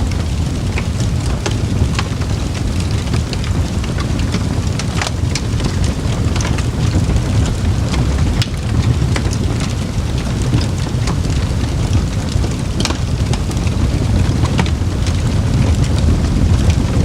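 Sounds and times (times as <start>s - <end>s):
campfire low rumble: 0.0s - 17.0s
fire crackles and pops: 0.0s - 17.0s.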